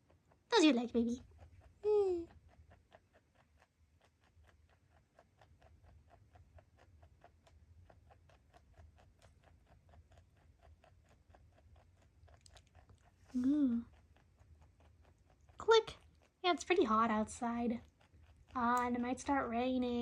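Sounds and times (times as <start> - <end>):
rabbit chewing greens: 0.0 - 20.0.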